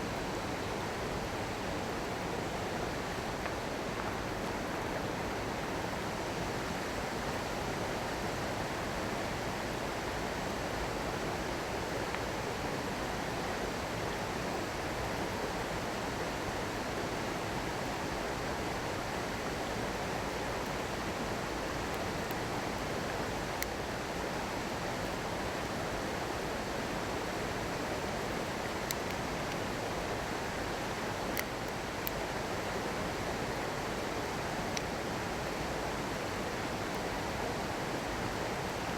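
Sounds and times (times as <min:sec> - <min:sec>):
small stream running: 0:00.0 - 0:38.9.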